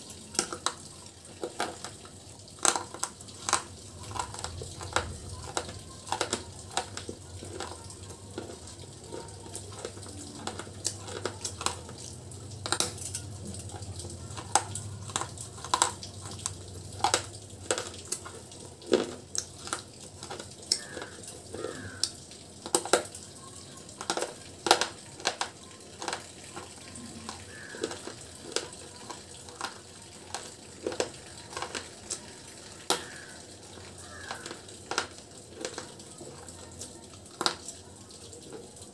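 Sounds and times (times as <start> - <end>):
chewing with sharp crunches: 0.0 - 37.8.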